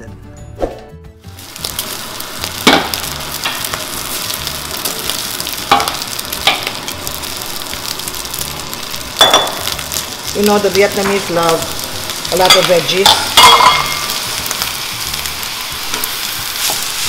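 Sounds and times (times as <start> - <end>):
fried rice sizzling in a pan: 1.3 - 17.0.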